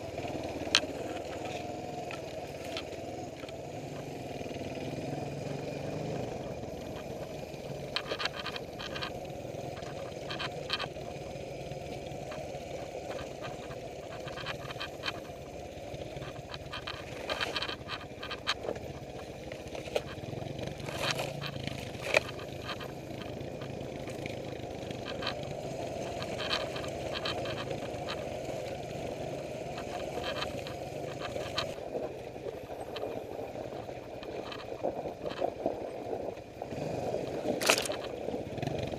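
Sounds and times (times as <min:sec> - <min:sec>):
motorcycle engine at low revs: 0:00.0 - 0:38.9
sharp clicks and knocks: 0:00.2 - 0:04.5, 0:06.2 - 0:31.8, 0:33.8 - 0:35.6, 0:37.5 - 0:38.9.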